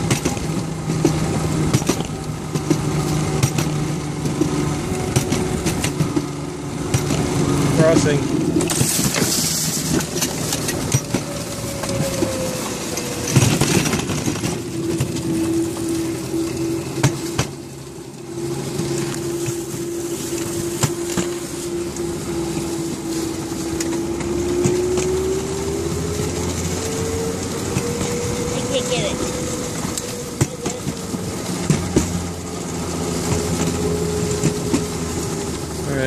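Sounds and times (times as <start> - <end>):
steel wheels rumbling on rails: 0.0 - 36.0
wheels clacking: 0.0 - 36.0.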